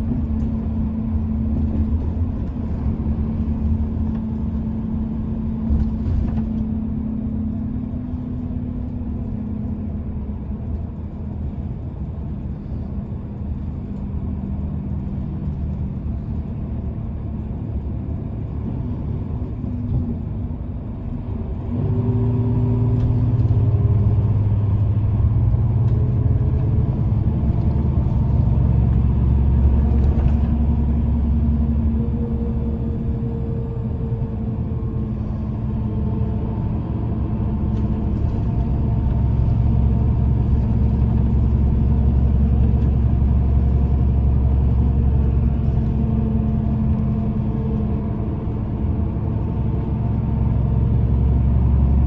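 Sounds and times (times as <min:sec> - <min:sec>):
vehicle engines rumbling: 0:00.0 - 0:52.0.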